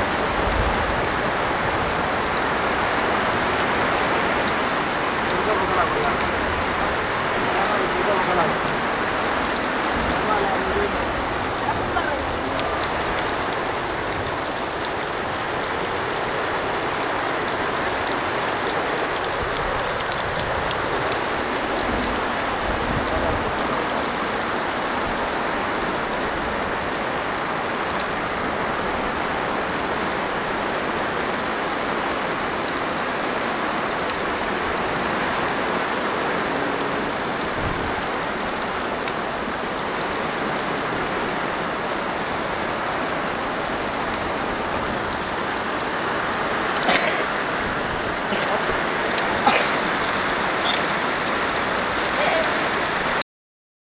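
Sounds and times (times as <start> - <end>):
heavy rain pouring: 0.0 - 53.2.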